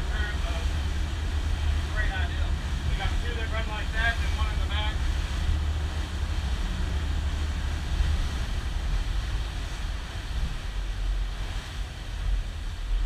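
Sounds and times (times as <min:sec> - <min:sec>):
boat engine and hull rumble: 0:00.0 - 0:13.0
wind buffeting microphone: 0:00.0 - 0:13.0.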